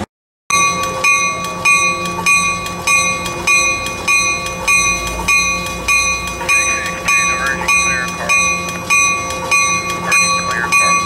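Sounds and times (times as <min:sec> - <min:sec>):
train humming: 0:00.0 - 0:11.0
railway bell striking: 0:00.5 - 0:11.0.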